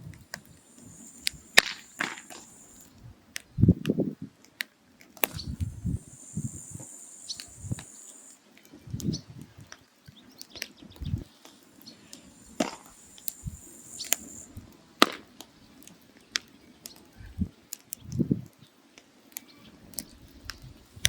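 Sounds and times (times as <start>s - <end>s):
firewood crackling: 0.0s - 21.0s.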